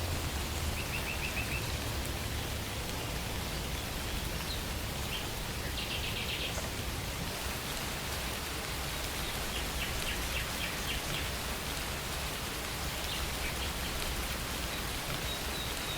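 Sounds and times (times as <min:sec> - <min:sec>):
steady rain falling: 0:00.0 - 0:15.9.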